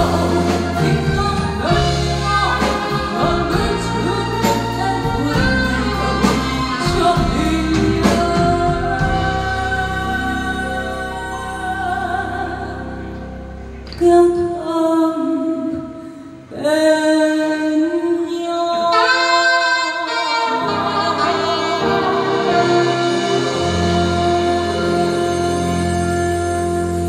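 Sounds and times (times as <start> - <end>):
woman singing: 0.0 - 13.2, 13.9 - 27.0
live band playing: 0.0 - 14.6, 18.8 - 27.0.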